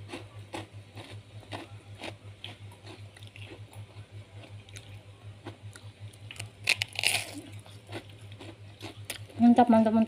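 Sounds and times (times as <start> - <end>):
chewing crunchy food: 0.0 - 9.4.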